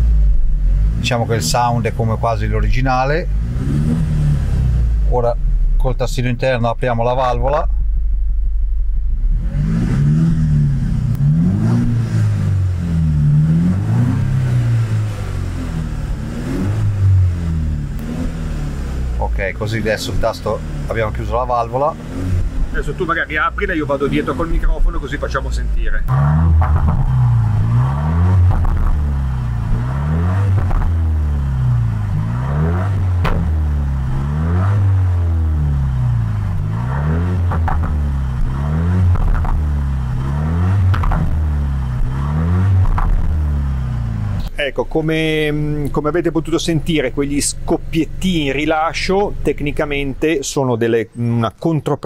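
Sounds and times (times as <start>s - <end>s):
car engine revving: 0.0s - 51.2s.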